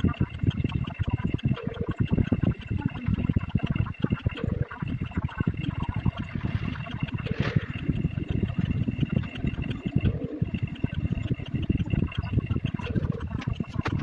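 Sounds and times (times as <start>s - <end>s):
fast clatter of clicks: 2.3s - 14.0s.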